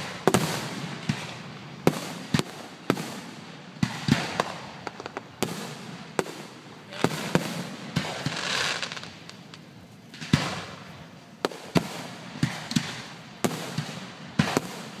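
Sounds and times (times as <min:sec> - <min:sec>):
fireworks bangs: 0:00.0 - 0:15.0
fireworks hissing and crackling: 0:00.0 - 0:15.0.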